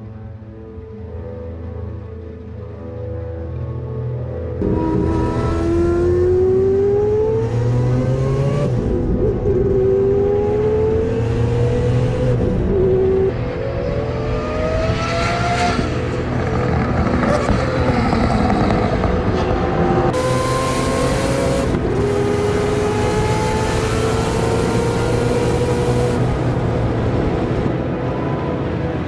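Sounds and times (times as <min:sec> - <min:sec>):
racing engine revving: 0:04.6 - 0:29.0.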